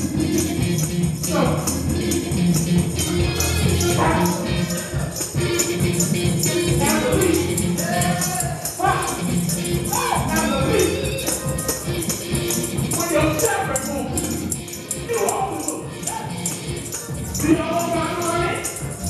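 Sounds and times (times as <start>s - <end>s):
fast gospel music: 0.0s - 19.0s
sustained organ tone: 0.0s - 19.0s
tambourine: 0.0s - 19.0s
voices singing and shouting: 0.0s - 19.0s.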